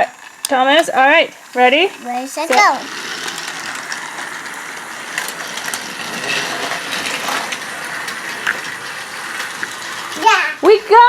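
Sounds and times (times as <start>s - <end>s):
toy train motor whir: 0.0s - 11.0s
wheels rattling on track: 0.0s - 11.0s.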